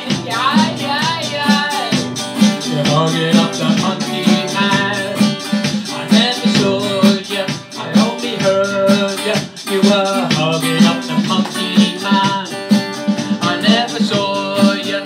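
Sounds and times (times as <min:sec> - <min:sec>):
guitar strumming: 0:00.0 - 0:15.0
man singing: 0:00.0 - 0:15.0
percussive beat: 0:00.0 - 0:15.0.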